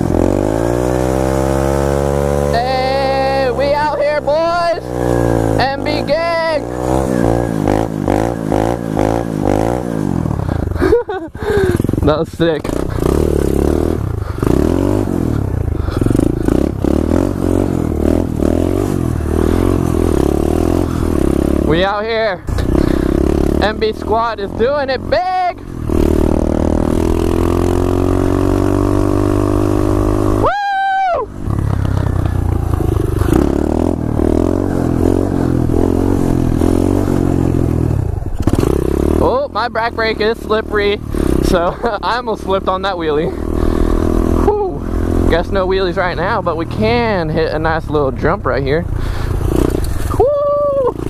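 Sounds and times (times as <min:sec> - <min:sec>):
motorbike engine revving: 0:00.0 - 0:51.0.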